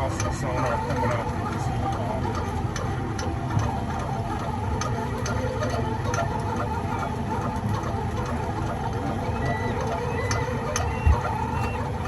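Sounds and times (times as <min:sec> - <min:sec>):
boat machinery rumbling: 0:00.0 - 0:12.0.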